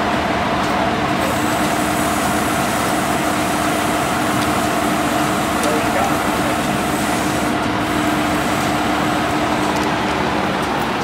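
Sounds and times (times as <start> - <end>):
diesel engine pumping water: 0.0 - 11.0.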